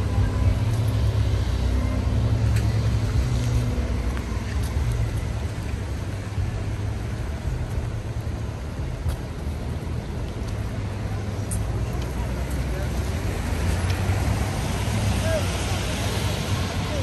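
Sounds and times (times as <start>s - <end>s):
street noise hiss: 0.0s - 17.0s
vehicle engine rumble: 0.0s - 17.0s.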